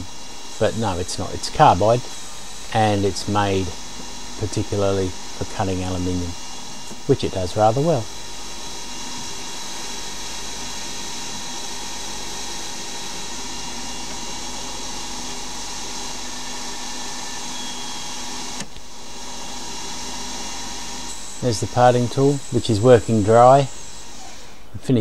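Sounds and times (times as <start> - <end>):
lathe spindle whine: 0.0 - 24.7.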